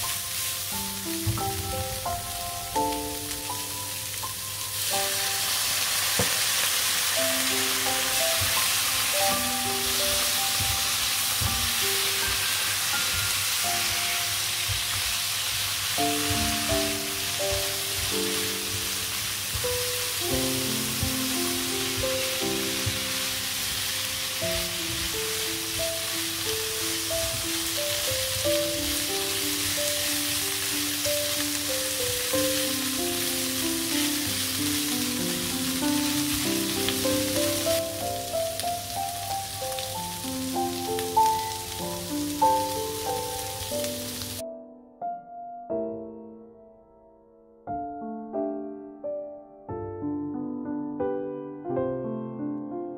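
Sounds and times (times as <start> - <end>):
beans sizzling in a wok: 0.0 - 44.4
soft background music: 0.0 - 52.9.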